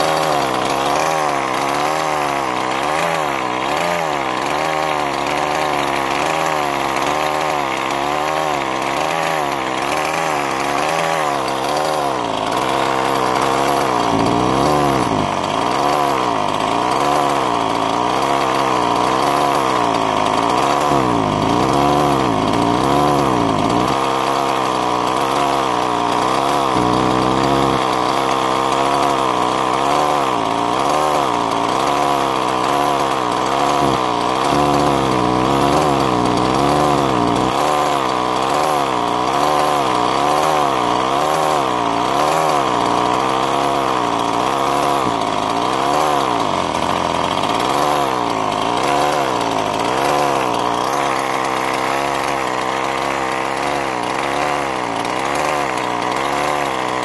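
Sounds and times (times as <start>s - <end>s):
two-stroke engine idling: 0.0s - 57.0s.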